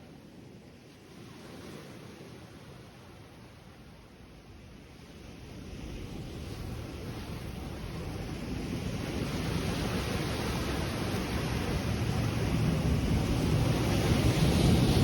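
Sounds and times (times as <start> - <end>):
ocean surf on shore: 0.0 - 15.0.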